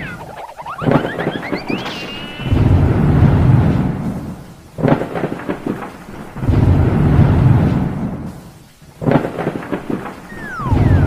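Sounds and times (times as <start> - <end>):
thunder: 0.8 - 11.0.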